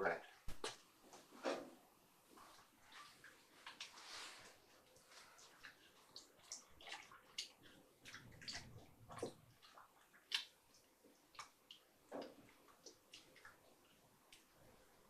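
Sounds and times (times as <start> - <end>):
small water sounds: 2.2 - 15.0.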